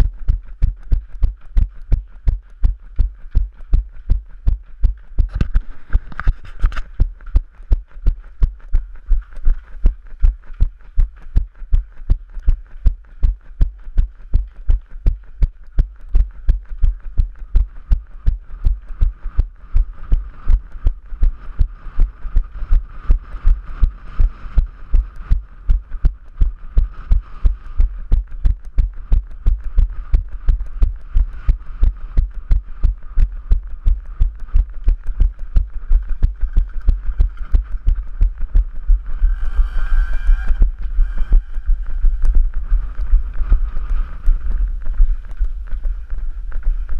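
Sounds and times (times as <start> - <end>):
running footsteps on stone: 0.0 - 21.9, 24.3 - 39.3, 40.6 - 46.9.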